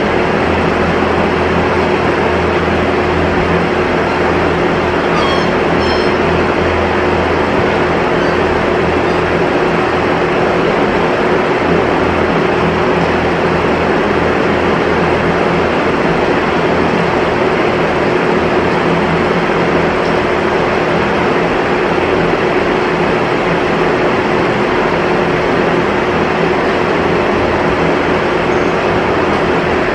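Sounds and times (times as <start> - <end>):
machinery droning: 0.0 - 29.9.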